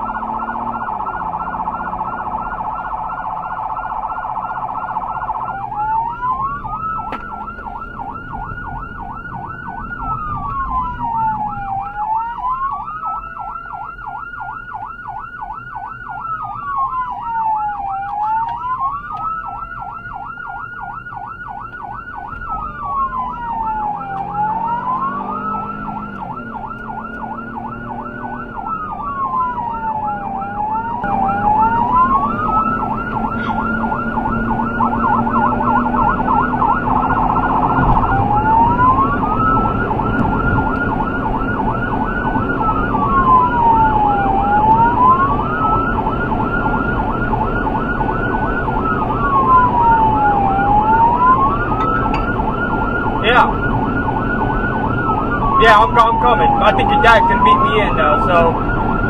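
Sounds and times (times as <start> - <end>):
emergency siren wailing and yelping: 0.0 - 59.0
road and engine noise: 0.0 - 59.0.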